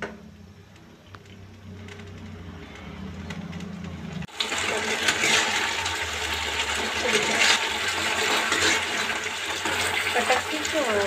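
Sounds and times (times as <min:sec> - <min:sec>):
gravy bubbling and sizzling: 0:00.0 - 0:11.0.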